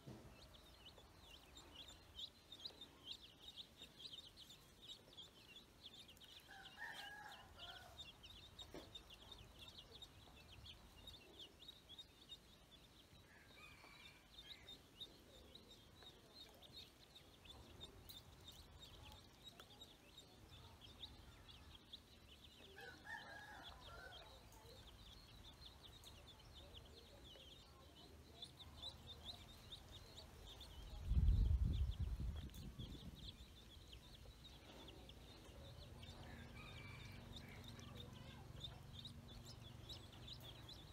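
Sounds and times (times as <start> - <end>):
ducklings and chicks peeping: 0.0 - 40.9.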